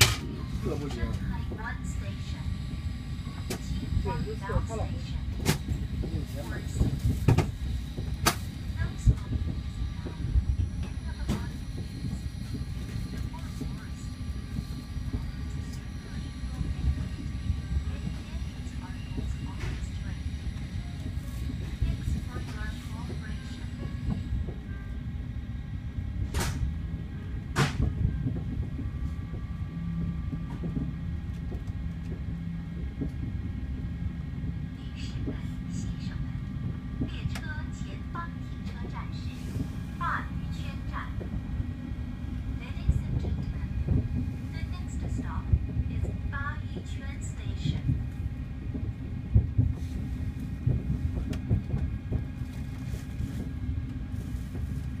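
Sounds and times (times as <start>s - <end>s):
train rumble inside carriage: 0.0s - 55.0s.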